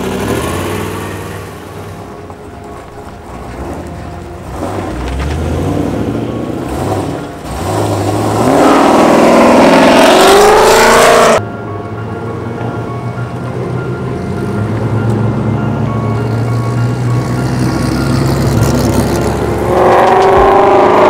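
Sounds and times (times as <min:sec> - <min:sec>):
sports car engines accelerating: 0:00.0 - 0:21.0.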